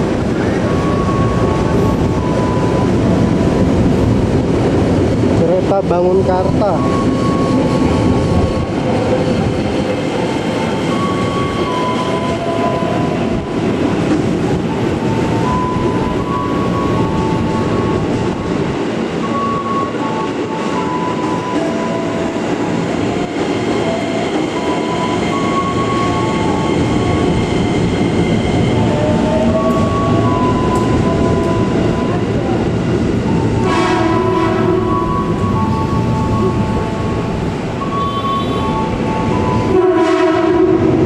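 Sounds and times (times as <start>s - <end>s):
train rumble: 0.0s - 41.0s.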